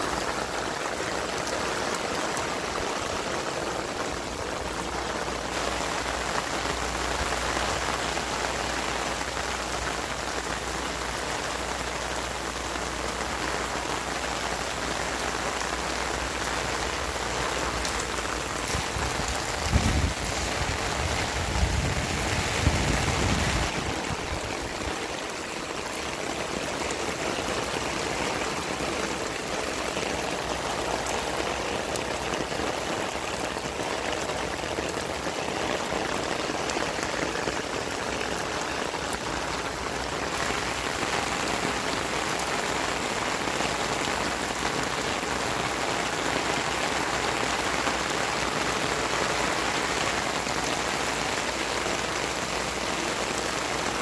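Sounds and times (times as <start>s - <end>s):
heavy rain on wet ground: 0.0s - 54.0s.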